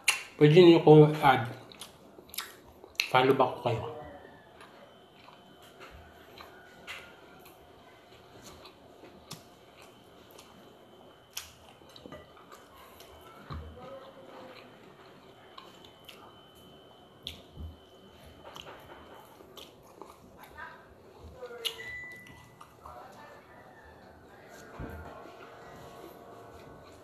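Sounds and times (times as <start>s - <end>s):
quiet chewing: 1.4s - 3.2s, 4.0s - 27.0s
faint high whine: 3.1s - 27.0s.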